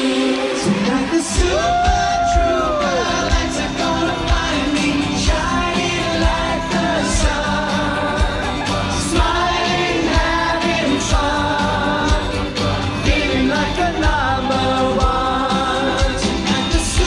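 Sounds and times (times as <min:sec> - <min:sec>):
male vocal group singing: 0:00.0 - 0:17.0
pop band with drums: 0:00.0 - 0:17.0.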